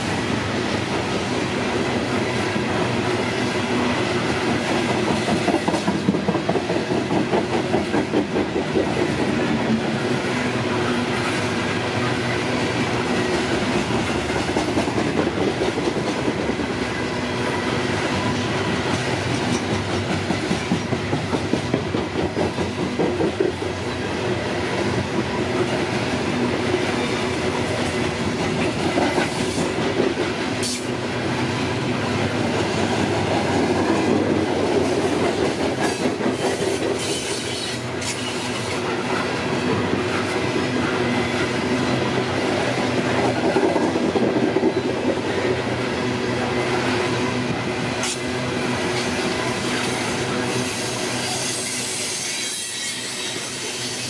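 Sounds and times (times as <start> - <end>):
train wheels rumbling on rails: 0.0 - 54.0
wheels clickety-clack on rail joints: 0.0 - 54.0.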